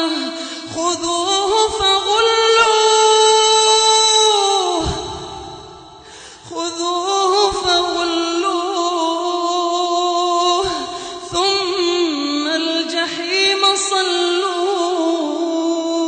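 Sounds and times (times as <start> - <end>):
solo voice chanting recitation: 0.0 - 16.0.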